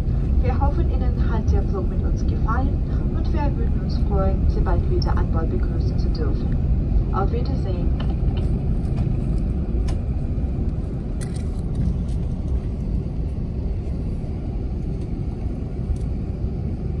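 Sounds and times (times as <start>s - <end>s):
low rumble of taxiing aircraft: 0.0s - 17.0s.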